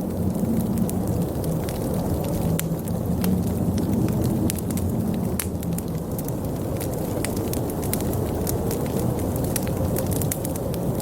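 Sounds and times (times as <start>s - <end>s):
fire pops: 0.0s - 11.0s
wood fire crackling: 0.0s - 11.0s.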